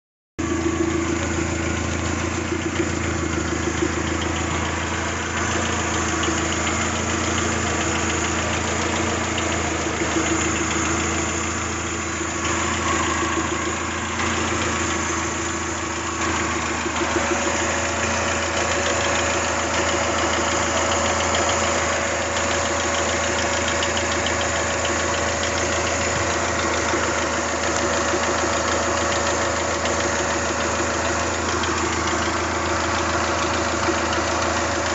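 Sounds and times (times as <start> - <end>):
car engine idling with ticking rattle: 0.4 - 34.9.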